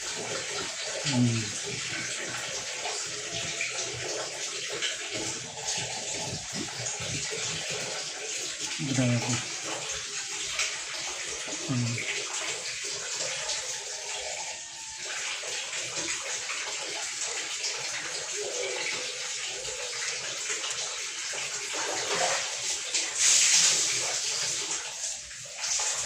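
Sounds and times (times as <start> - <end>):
tap water running and splashing: 0.0 - 26.0.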